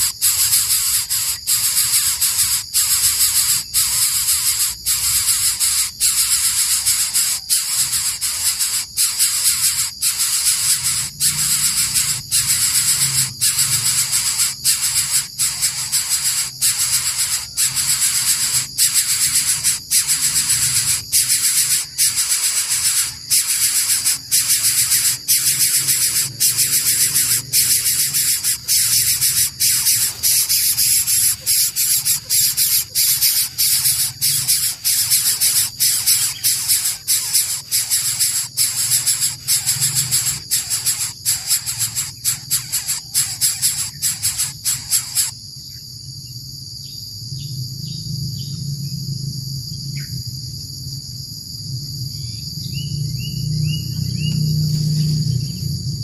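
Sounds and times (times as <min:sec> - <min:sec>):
bird hissing rasp: 0:00.0 - 0:45.4.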